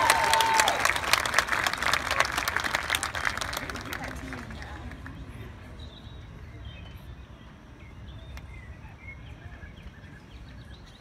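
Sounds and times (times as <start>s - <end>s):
distant crowd voices: 0.0s - 11.0s.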